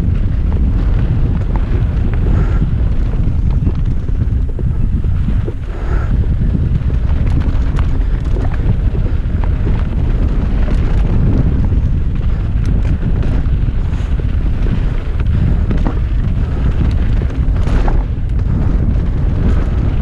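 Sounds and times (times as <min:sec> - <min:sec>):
bike clicks and rattles: 0:00.0 - 0:20.0
wind buffeting microphone: 0:00.0 - 0:20.0.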